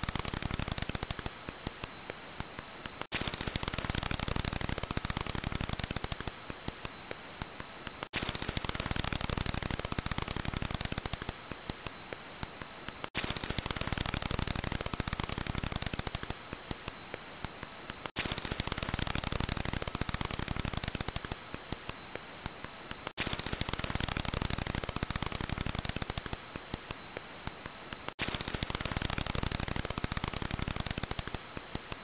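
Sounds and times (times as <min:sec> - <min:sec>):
bat echolocation clicks: 0:00.0 - 0:32.0.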